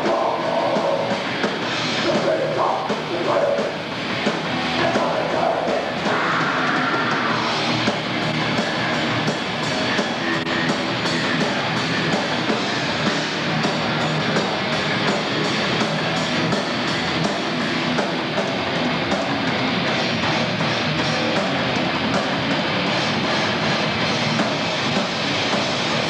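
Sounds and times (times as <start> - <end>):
distorted electric guitars: 0.0 - 26.0
drum kit beat: 0.0 - 26.0.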